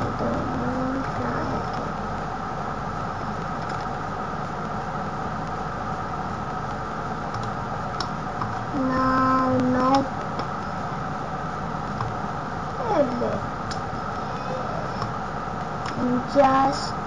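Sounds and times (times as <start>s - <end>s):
computer fan whirring: 0.0s - 17.0s.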